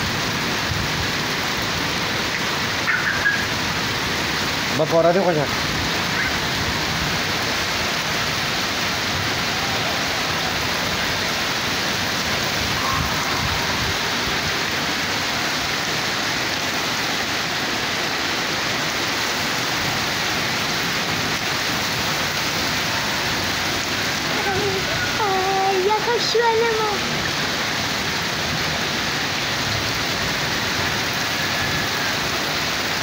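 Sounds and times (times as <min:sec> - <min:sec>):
rain falling on concrete: 0:00.0 - 0:33.0.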